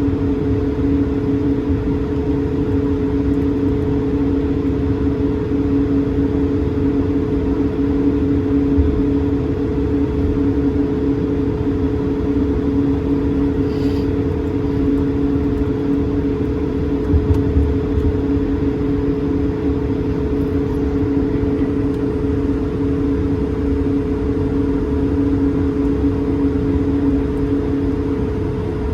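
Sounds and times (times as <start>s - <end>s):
airplane cabin engine rumble: 0.0s - 28.9s.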